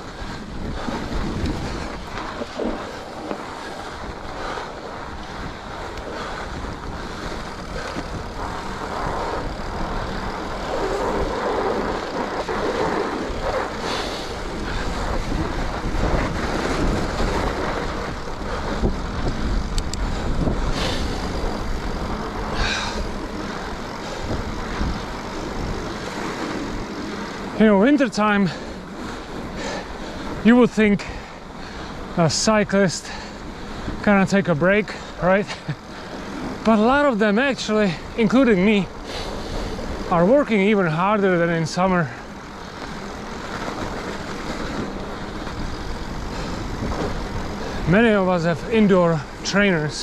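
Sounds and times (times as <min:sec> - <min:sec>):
wind on microphone: 0:00.0 - 0:32.6, 0:41.5 - 0:50.0
bike clattering: 0:00.0 - 0:50.0
bike tyres rolling on snow: 0:00.0 - 0:50.0.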